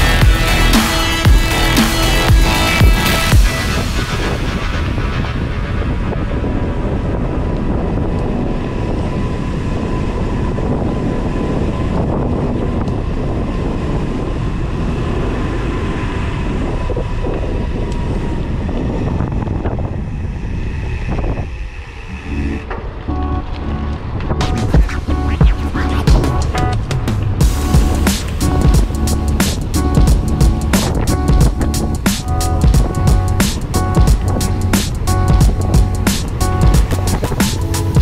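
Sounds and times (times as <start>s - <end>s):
bike tyre rumble on pavement: 0.0s - 38.0s
wind rush on microphone: 0.0s - 38.0s.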